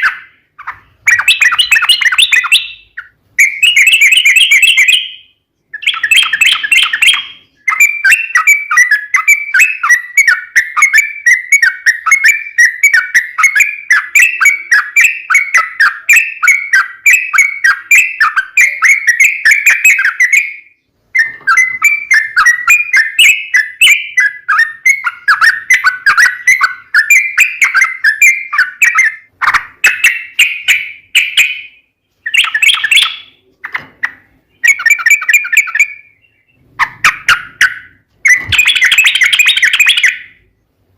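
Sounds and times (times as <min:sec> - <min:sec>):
bird singing chattering notes: 0:00.0 - 0:40.5.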